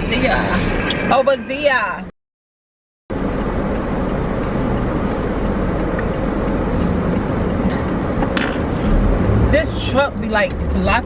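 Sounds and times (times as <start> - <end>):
car engine and road noise: 0.0 - 2.1, 3.1 - 11.0.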